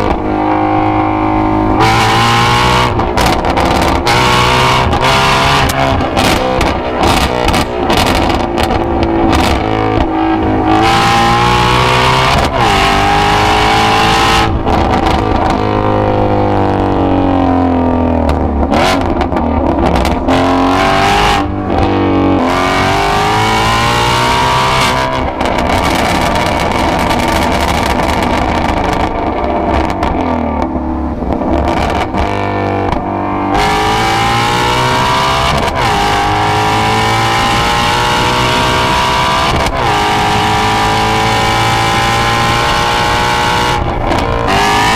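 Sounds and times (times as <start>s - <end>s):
car engine revving through exhaust: 0.0s - 44.9s.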